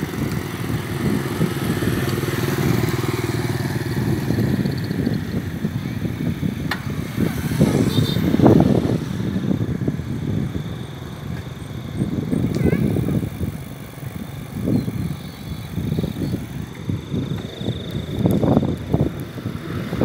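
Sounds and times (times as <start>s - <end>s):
bicycle road rumble: 0.0s - 20.0s
wind buffeting microphone: 0.0s - 20.0s.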